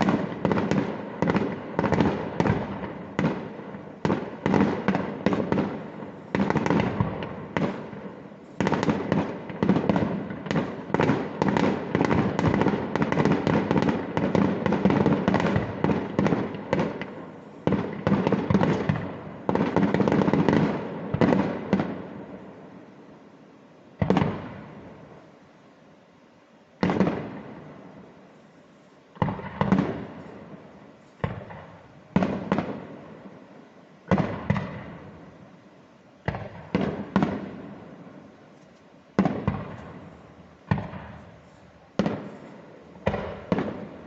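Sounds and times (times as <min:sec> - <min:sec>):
fireworks bangs: 0:00.0 - 0:23.1, 0:23.9 - 0:25.4, 0:26.8 - 0:44.0.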